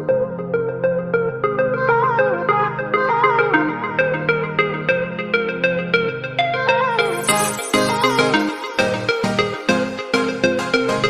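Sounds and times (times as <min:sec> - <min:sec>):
electronic keyboard tune: 0:00.0 - 0:11.0.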